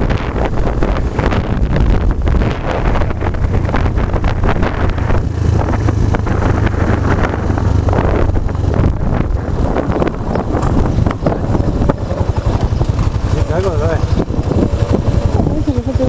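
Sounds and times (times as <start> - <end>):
engine and road noise rumble: 0.0 - 16.0
wind buffeting microphone: 0.0 - 16.0.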